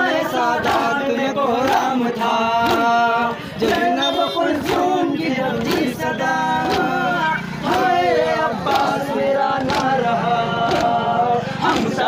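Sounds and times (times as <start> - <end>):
men chanting a lament: 0.0 - 12.0
sharp beats: 1.6 - 12.0.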